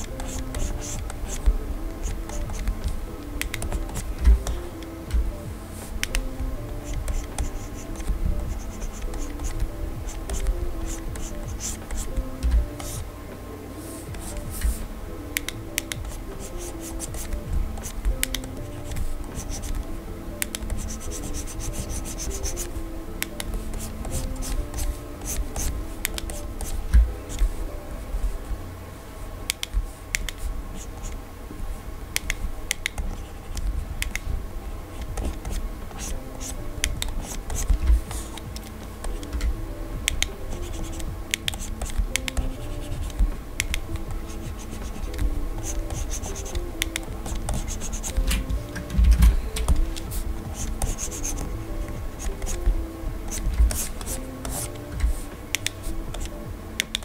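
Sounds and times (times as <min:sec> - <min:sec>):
stylus tapping on screen: 0:00.0 - 0:13.2, 0:14.1 - 0:27.6, 0:35.0 - 0:57.0
soft background music: 0:00.0 - 0:57.0.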